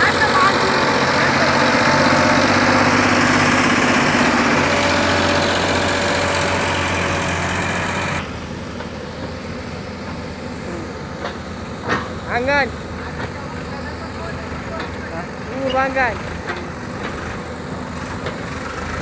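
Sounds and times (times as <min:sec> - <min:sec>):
backhoe loader engine: 0:00.0 - 0:19.0
tractor diesel engine running: 0:00.0 - 0:19.0.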